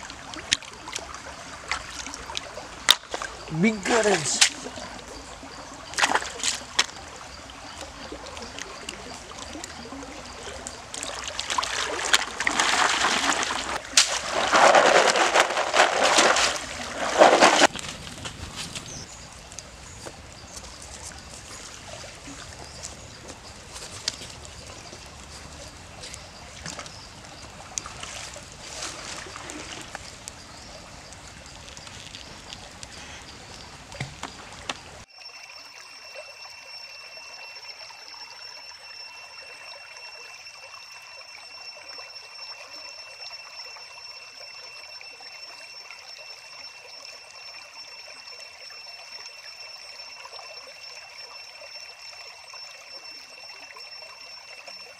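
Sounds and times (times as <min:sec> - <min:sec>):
water splashing and sloshing: 0:00.0 - 0:54.9.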